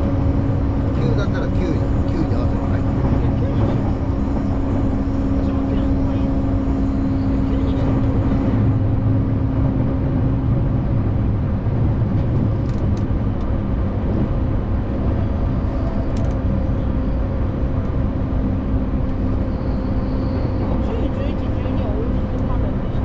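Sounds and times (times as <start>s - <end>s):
low motor hum: 0.0s - 23.0s
train wheels rumbling on rails: 0.0s - 23.0s.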